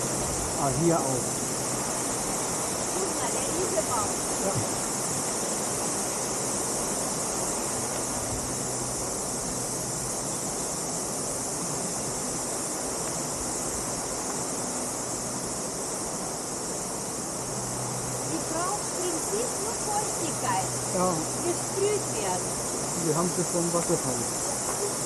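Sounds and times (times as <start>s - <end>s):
high-pitched insect chorus: 0.0s - 25.0s
waterfall and stream rushing: 0.0s - 25.0s.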